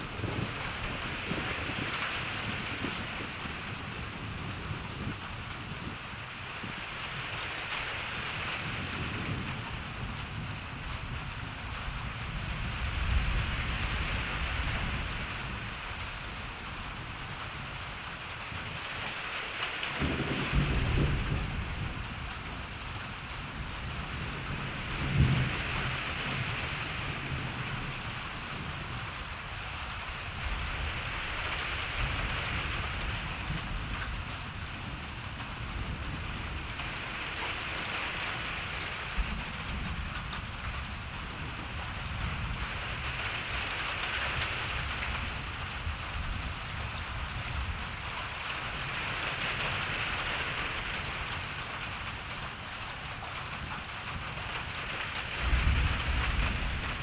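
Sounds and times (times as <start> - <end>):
low rolling thunder: 0.0 - 57.0
steady rain hissing: 0.0 - 57.0.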